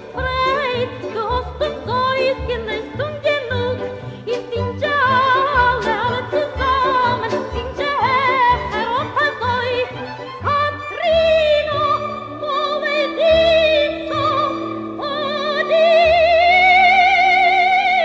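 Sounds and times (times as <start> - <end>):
instrumental accompaniment: 0.0 - 18.0
woman singing operatically: 0.0 - 18.0.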